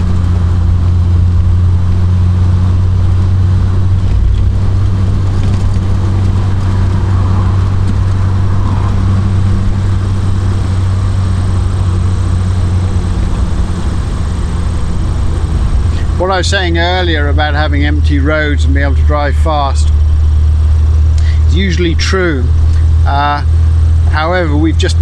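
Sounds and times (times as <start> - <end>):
car engine droning at cruise: 0.0 - 25.0.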